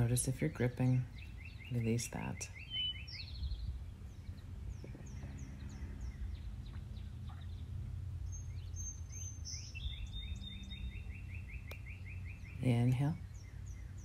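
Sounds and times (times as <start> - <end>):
birds chirping: 0.0 - 14.0
low background rumble: 0.0 - 14.0.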